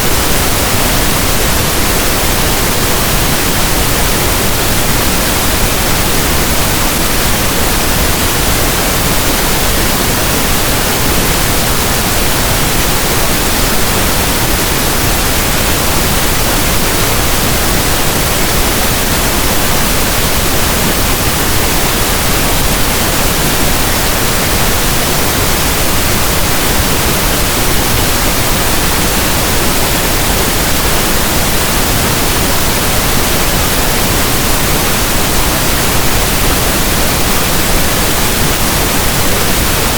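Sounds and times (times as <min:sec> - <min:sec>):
pink noise static: 0:00.0 - 0:39.9.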